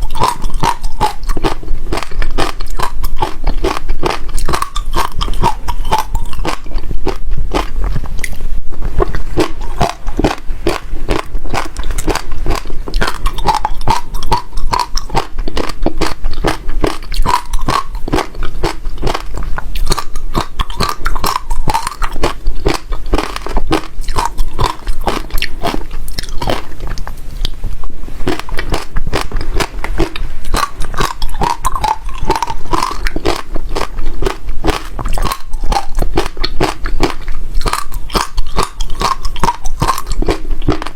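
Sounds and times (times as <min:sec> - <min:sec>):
seeds crunching between teeth: 0:00.0 - 0:27.6, 0:28.2 - 0:40.9.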